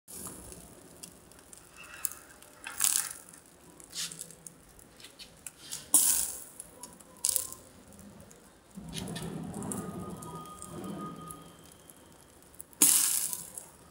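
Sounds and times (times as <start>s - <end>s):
charcoal fire crackling: 0.1s - 13.9s
fish sizzling on grill: 0.1s - 13.9s.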